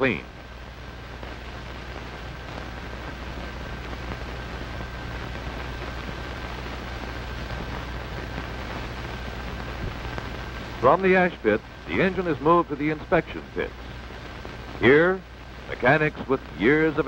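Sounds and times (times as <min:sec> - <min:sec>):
faint thin whine: 0:00.0 - 0:17.0
film soundtrack hiss: 0:00.0 - 0:17.0.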